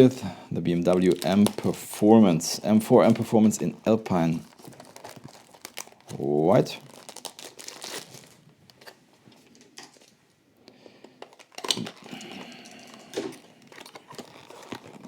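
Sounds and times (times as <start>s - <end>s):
packaging rustling and clicking: 0.8s - 10.2s, 11.0s - 15.0s.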